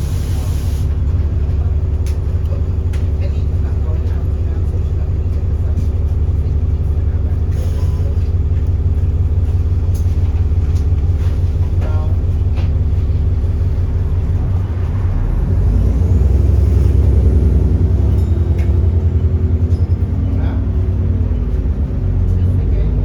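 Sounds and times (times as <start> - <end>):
bus diesel engine accelerating: 0.0 - 23.0.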